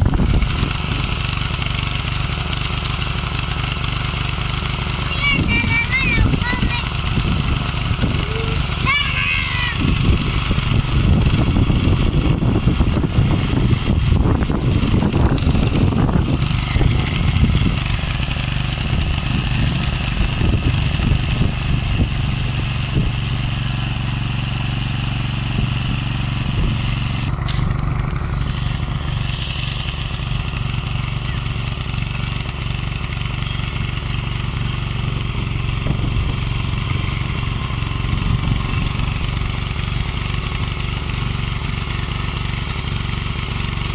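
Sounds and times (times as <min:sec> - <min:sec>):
power tiller running: 0:00.0 - 0:43.9.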